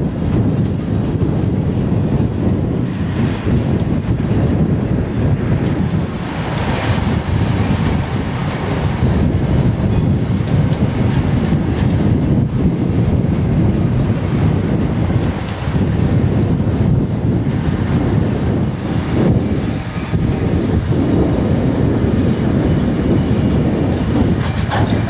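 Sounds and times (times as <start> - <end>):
freight train rumbling past: 0.0 - 25.0
wind buffeting microphone: 0.0 - 25.0.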